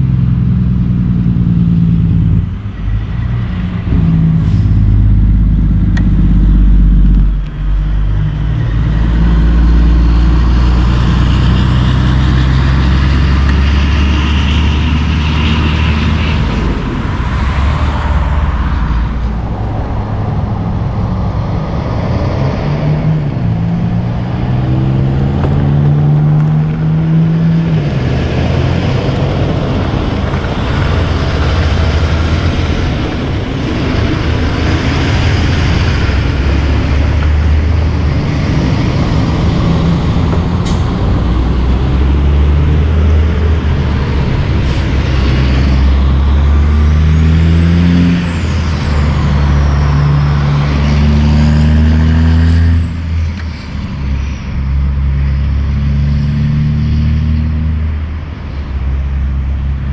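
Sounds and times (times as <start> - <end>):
diesel trucks passing: 0.0 - 59.9
road traffic: 0.0 - 59.9.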